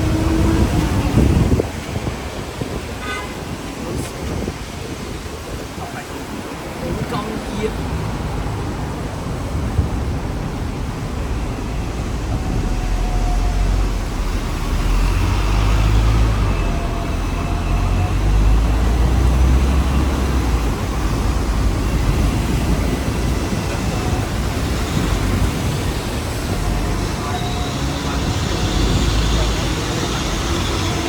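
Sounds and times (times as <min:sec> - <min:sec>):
road traffic noise: 0:00.0 - 0:31.0
tram low rumble: 0:00.0 - 0:31.0.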